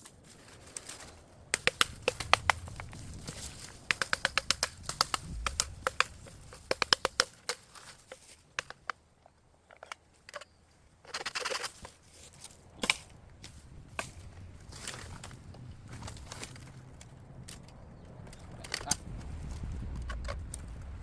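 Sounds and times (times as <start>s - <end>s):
bamboo clicking and knocking: 0.0s - 21.0s
rustle: 0.0s - 21.0s.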